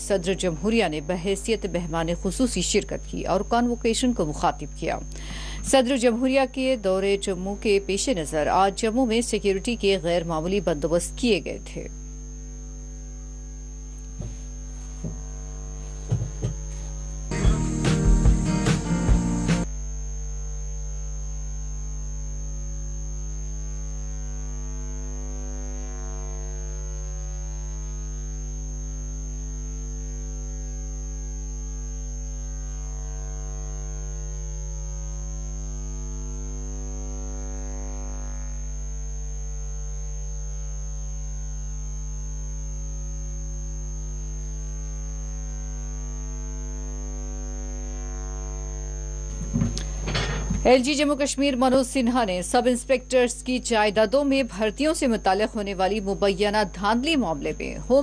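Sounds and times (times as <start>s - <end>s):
electronic hum with high whine: 0.0s - 58.0s.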